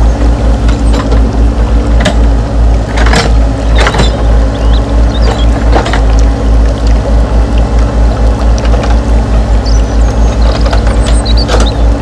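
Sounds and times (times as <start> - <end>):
gravel crunching: 0.0 - 12.0
pulsing low motor hum: 0.0 - 12.0.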